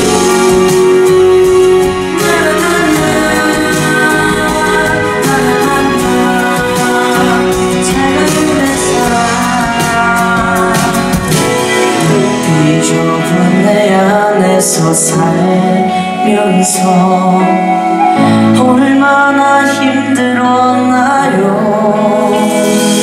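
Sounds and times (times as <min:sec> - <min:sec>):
instrumental backing: 0:00.0 - 0:23.0
man singing into microphone: 0:00.0 - 0:23.0.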